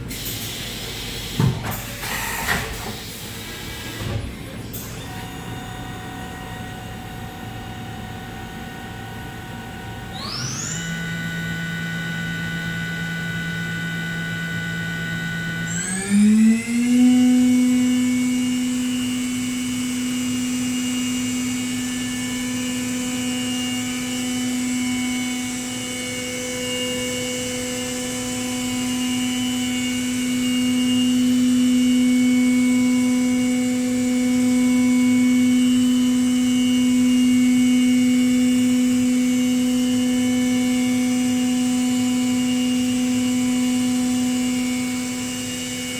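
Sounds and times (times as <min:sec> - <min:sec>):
machine spindle whine: 0:00.0 - 0:45.9.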